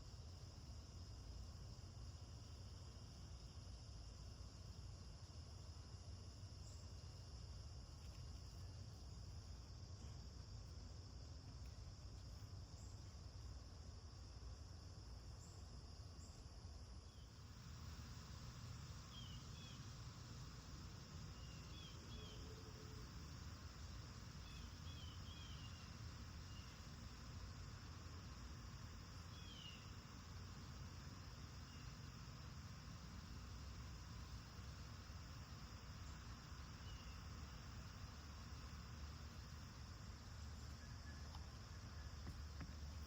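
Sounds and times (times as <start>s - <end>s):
cicada chorus: 0.0s - 43.0s.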